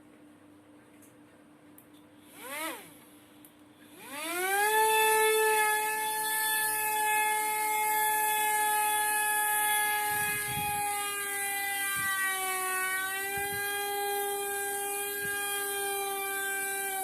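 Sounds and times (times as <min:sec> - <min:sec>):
toy helicopter motor whine: 0:02.3 - 0:03.0, 0:03.9 - 0:17.0.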